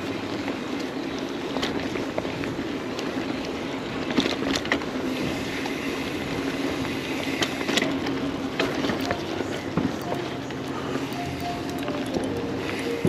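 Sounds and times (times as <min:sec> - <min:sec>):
bike clicks and knocks over bumps: 0:00.0 - 0:13.0
bike rolling on dirt trail: 0:00.0 - 0:13.0.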